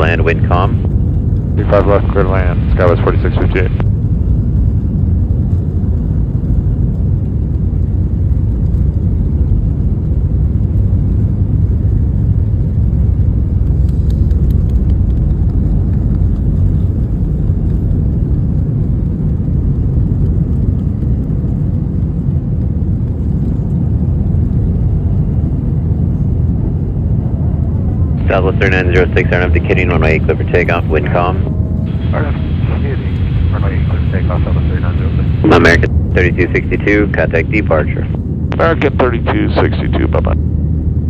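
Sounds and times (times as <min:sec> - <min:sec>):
jet engines roaring at takeoff: 0:00.0 - 0:41.0.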